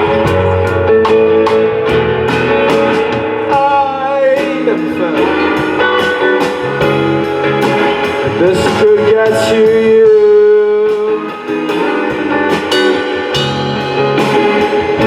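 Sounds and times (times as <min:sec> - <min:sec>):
live band guitar and drums: 0:00.0 - 0:15.0.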